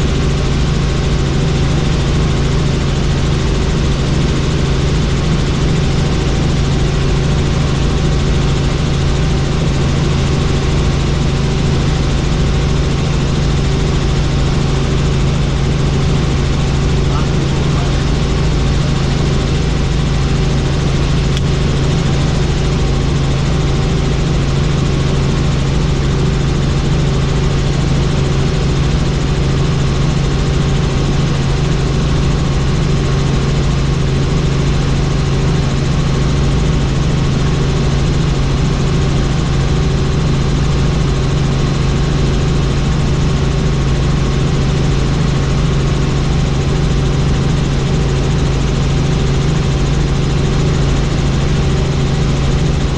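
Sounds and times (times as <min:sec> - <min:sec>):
helicopter engine and rotor hum: 0:00.0 - 0:52.9.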